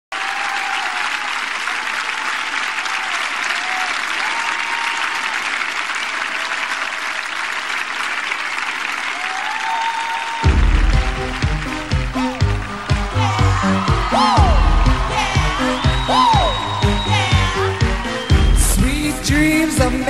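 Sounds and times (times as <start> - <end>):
audience applauding: 0.1 - 20.0.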